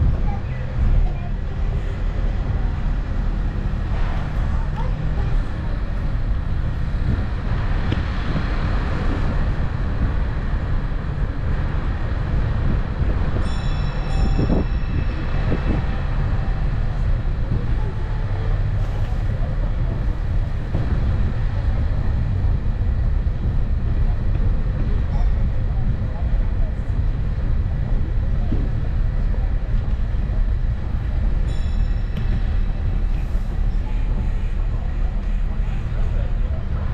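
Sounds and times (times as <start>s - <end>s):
road train running rumble: 0.0s - 36.9s.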